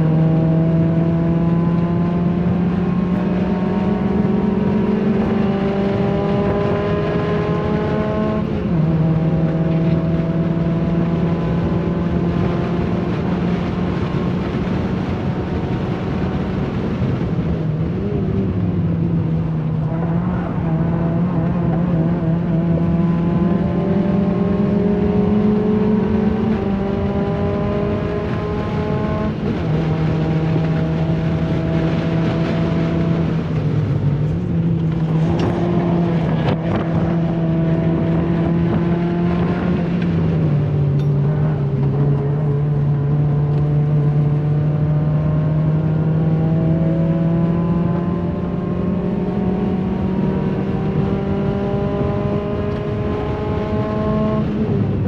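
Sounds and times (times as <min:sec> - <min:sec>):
car engine revving through gears: 0:00.0 - 0:55.0
tyre and road noise: 0:00.0 - 0:55.0.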